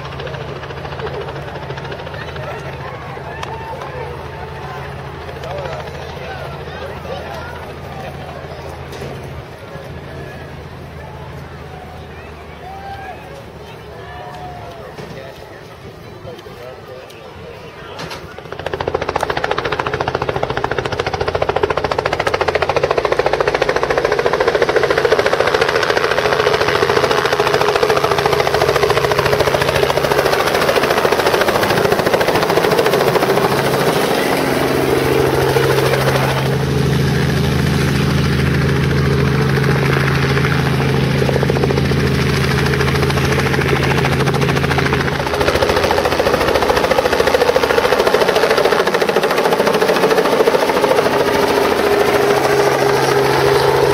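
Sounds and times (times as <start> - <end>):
helicopter flying past: 0.0 - 53.9.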